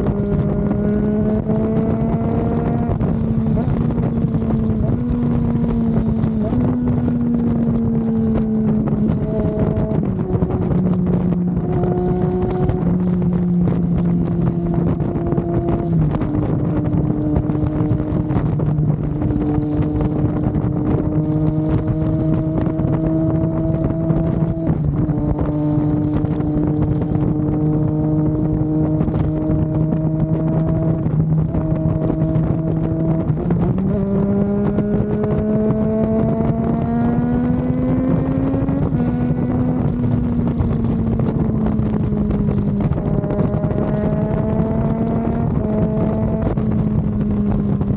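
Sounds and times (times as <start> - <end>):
motorcycle engine cruising: 0.0 - 47.9
wind rushing over microphone: 0.0 - 47.9.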